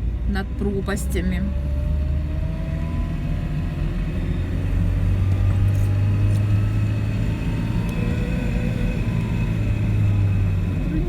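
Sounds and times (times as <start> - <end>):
car interior driving drone: 0.0 - 11.0.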